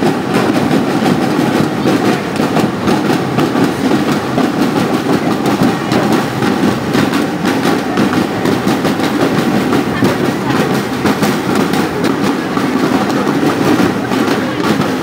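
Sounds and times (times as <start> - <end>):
marching drum line playing: 0.0 - 15.0.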